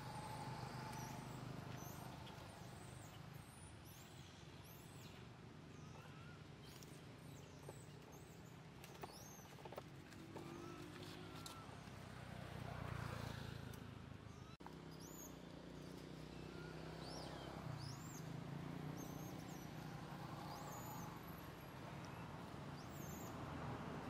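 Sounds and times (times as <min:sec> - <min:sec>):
small birds chirping: 0:00.0 - 0:12.1, 0:13.0 - 0:23.5.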